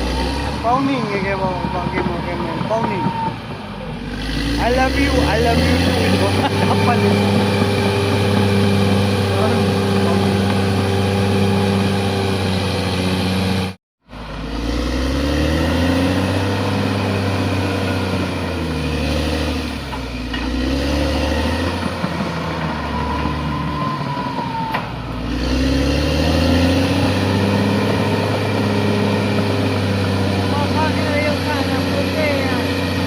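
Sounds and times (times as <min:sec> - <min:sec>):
bulldozer diesel engine revving: 0:00.0 - 0:33.0.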